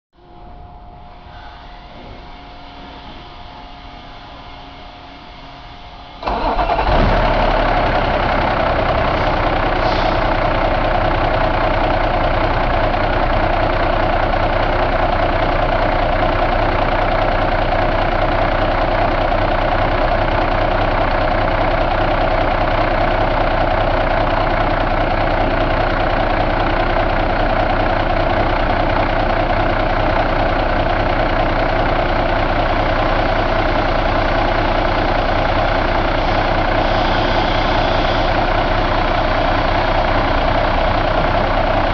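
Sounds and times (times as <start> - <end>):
diesel engine idling: 0.2 - 41.9.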